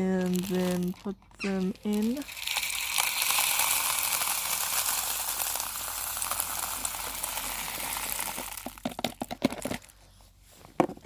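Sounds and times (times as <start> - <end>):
birdseed pouring into feeder: 0.2 - 9.9.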